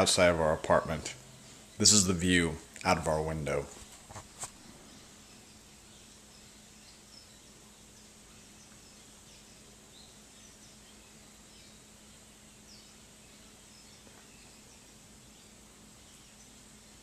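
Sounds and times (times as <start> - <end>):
small birds chirping: 0.0 - 17.0
steady low hum and hiss: 0.0 - 17.0.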